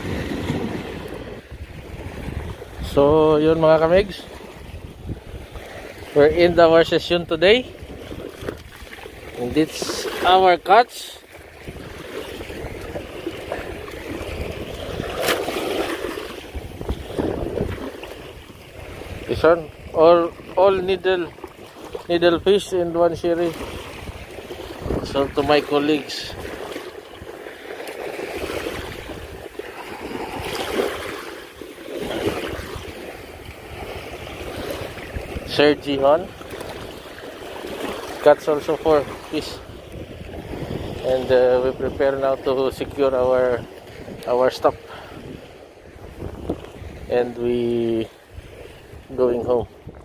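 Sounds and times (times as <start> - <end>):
wind buffeting microphone: 0.0 - 10.6, 11.2 - 50.0
sea water washing: 0.0 - 50.0.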